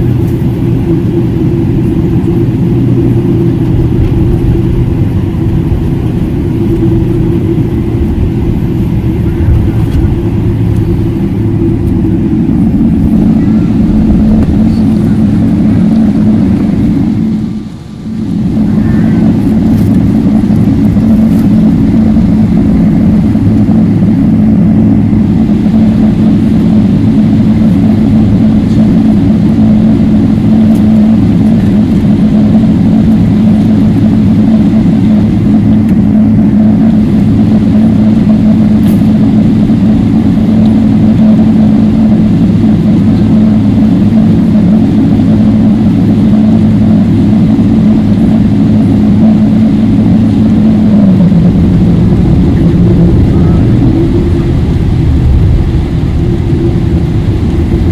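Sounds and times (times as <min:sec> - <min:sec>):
airplane cabin engine drone: 0:00.0 - 0:57.9.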